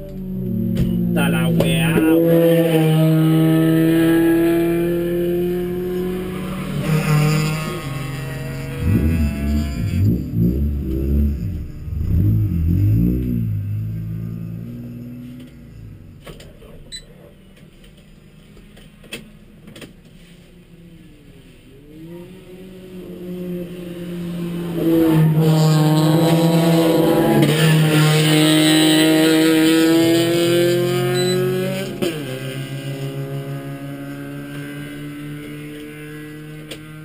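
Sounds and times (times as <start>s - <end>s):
race car engines passing: 0.0s - 16.1s, 20.2s - 37.0s.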